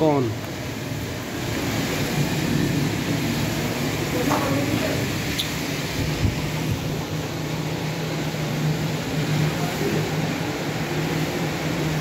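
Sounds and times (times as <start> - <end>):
industrial washing machine humming: 0.0 - 12.0.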